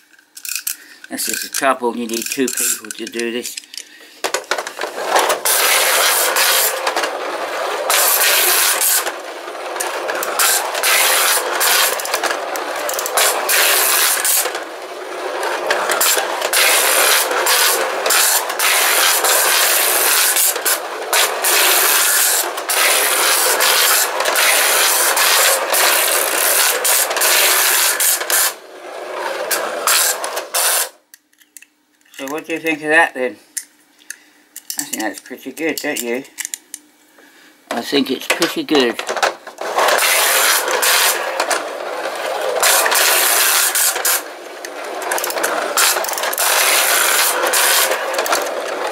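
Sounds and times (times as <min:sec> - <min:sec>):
toy cars rattling on metal track: 0:00.0 - 0:32.8, 0:37.8 - 0:48.9.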